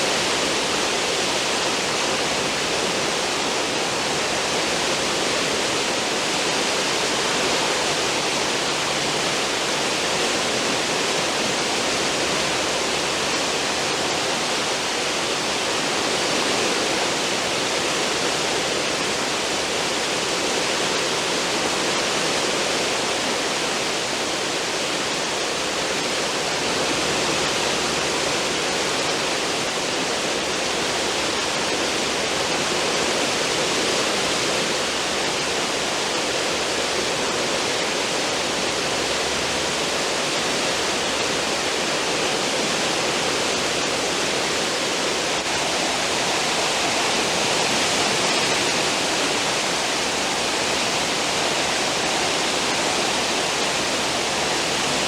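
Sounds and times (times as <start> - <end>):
churning water rushing behind ship: 0.0 - 55.0.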